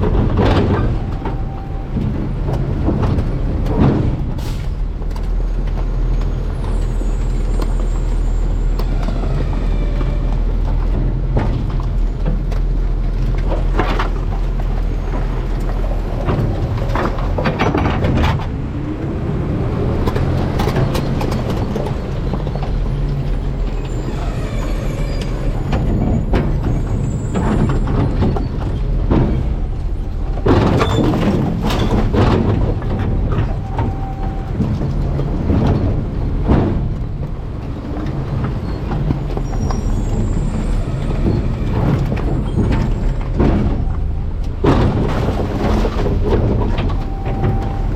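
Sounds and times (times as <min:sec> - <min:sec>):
garbage truck engine drone: 0:00.0 - 0:47.9
refuse clattering and crunching: 0:00.0 - 0:47.9.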